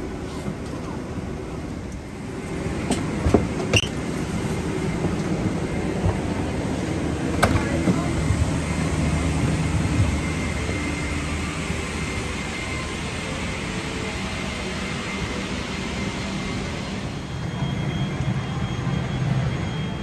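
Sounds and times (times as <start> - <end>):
rush of cabin air: 0.0 - 19.5.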